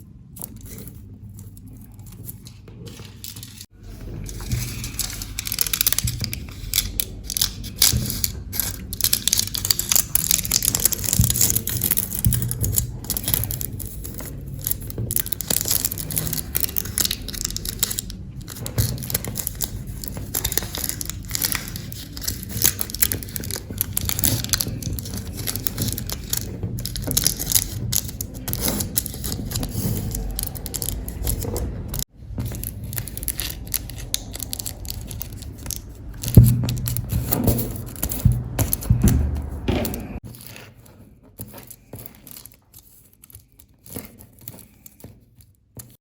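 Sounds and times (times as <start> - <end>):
aluminium foil crinkling: 0.4 - 39.1, 40.2 - 46.0.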